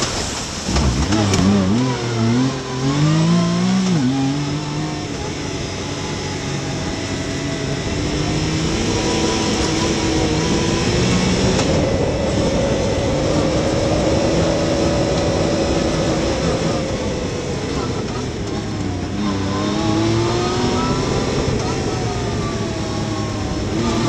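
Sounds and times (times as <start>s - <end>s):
engine accelerating: 0.7s - 24.0s.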